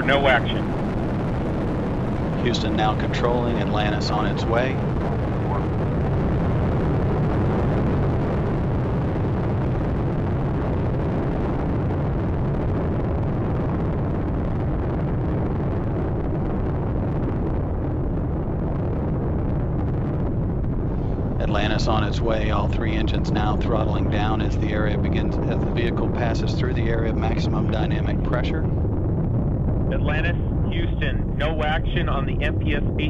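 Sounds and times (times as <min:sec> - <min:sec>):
deep rocket roar: 0:00.0 - 0:33.0.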